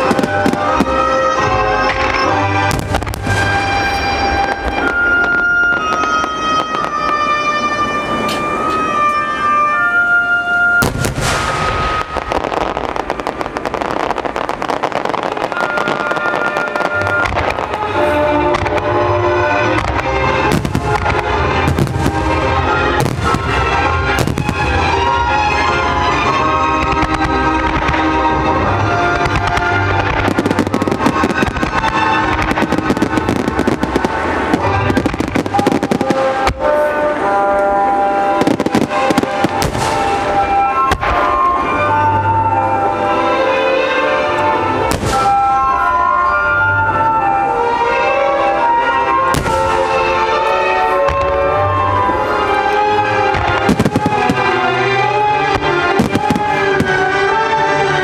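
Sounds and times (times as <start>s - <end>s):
fireworks bursting: 0.0s - 58.0s
music playing: 0.0s - 58.0s.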